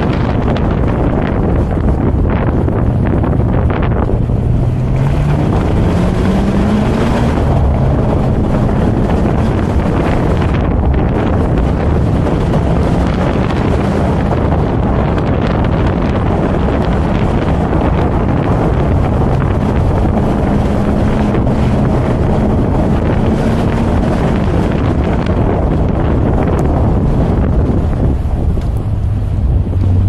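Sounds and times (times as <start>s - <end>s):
low car engine tone: 0.0s - 30.0s
wind rushing over microphone: 0.0s - 30.0s.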